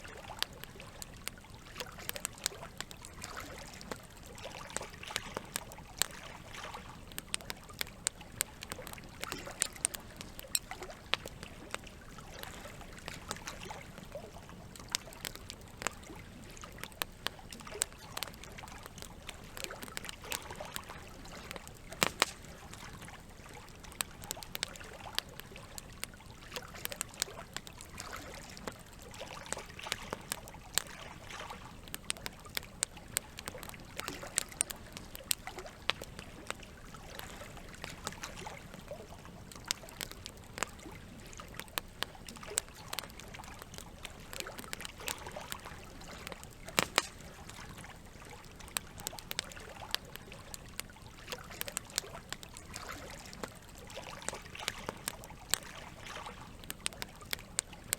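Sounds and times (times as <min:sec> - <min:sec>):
campfire crackling and popping: 0:00.0 - 0:57.9
running water trickling: 0:00.0 - 0:57.9.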